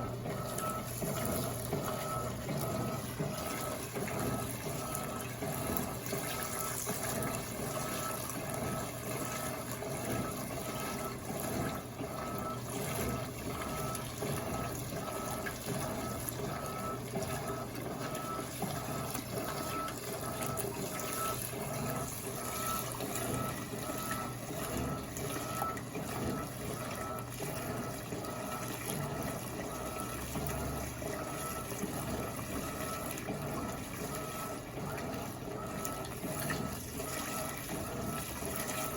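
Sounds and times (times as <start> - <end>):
water rushing into washing machine: 0.0 - 38.9.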